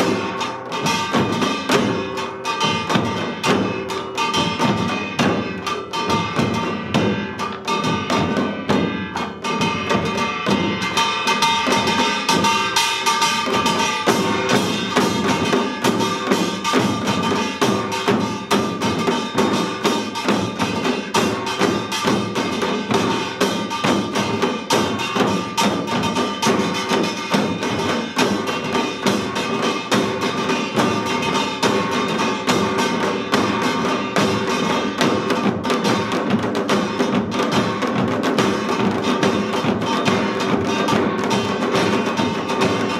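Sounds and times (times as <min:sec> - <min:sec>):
drums beating fast: 0:00.0 - 0:42.9.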